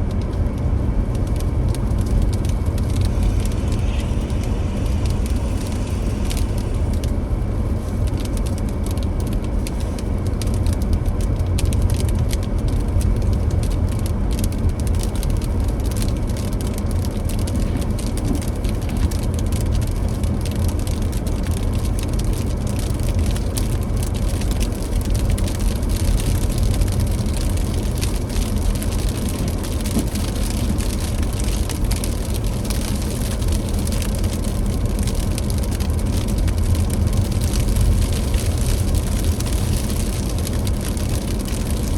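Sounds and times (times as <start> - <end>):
car road rumble and tyre noise: 0.0 - 41.9.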